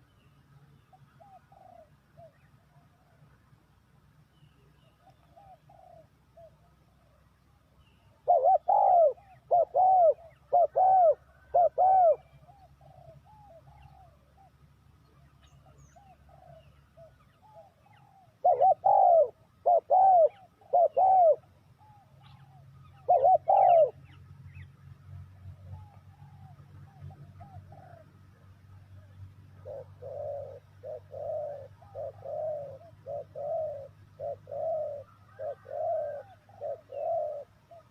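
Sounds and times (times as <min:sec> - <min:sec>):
distant doves cooing: 0:00.0 - 0:03.7, 0:04.3 - 0:37.9
dove cooing close: 0:01.1 - 0:03.2, 0:05.1 - 0:07.2, 0:08.1 - 0:14.6, 0:15.6 - 0:24.2, 0:25.5 - 0:37.9.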